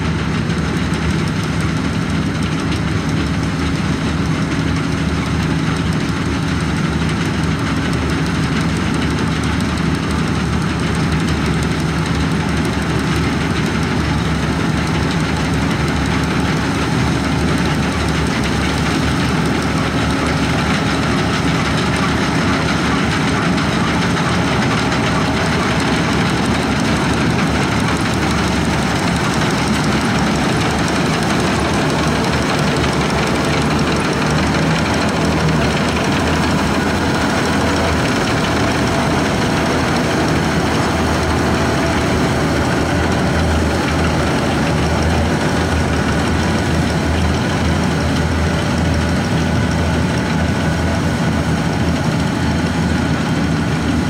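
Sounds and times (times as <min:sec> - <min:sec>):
combine harvester engine: 0:00.0 - 0:54.0
harvester working parts noise: 0:00.1 - 0:54.0.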